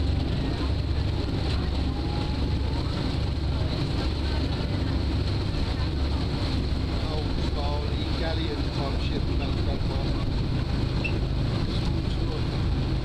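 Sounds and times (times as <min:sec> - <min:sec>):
ferry engine drone: 0:00.0 - 0:13.0.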